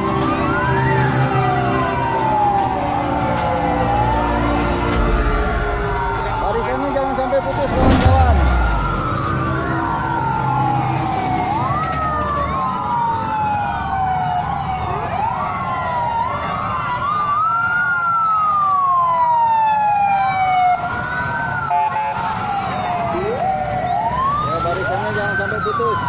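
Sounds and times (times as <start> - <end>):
emergency vehicle sirens wailing: 0.0 - 26.0.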